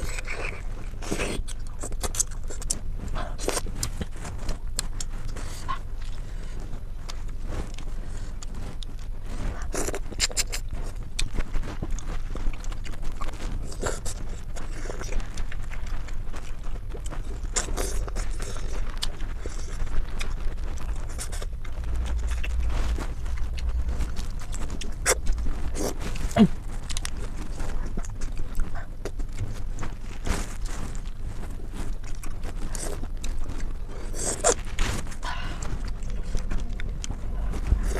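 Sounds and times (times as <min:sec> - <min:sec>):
eating scrapes and chewing: 0:00.0 - 0:37.9
steady low hum: 0:00.0 - 0:37.9.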